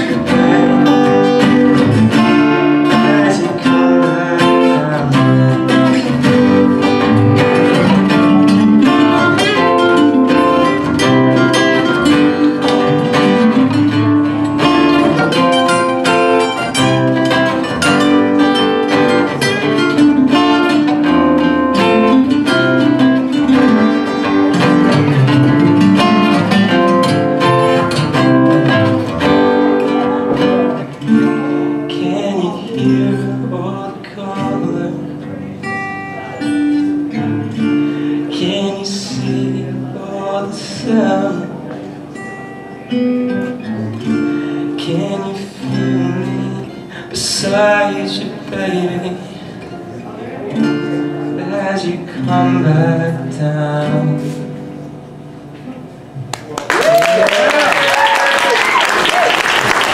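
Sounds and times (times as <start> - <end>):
acoustic guitars playing: 0.0 - 56.6, 57.4 - 59.9.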